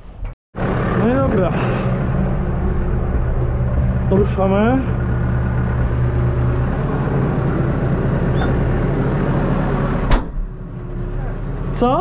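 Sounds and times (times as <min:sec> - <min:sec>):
tractor engine running: 0:00.6 - 0:12.0.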